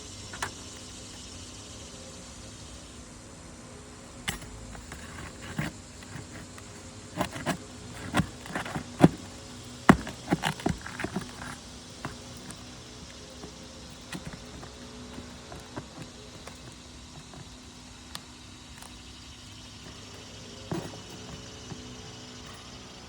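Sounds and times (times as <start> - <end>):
steady low hum: 0.0 - 23.0
sharp clicks and knocks: 4.2 - 23.0.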